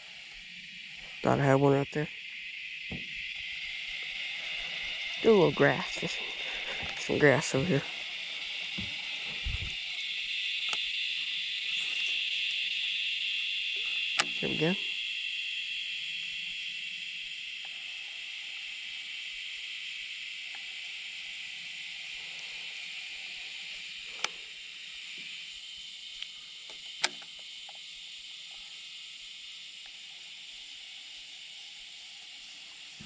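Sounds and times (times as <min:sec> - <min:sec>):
insects chirping chorus: 0:00.0 - 0:33.0.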